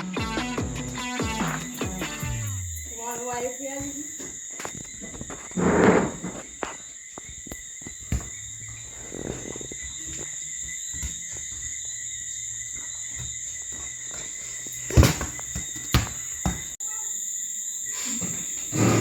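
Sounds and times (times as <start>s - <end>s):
night insects trilling: 0.0s - 19.0s.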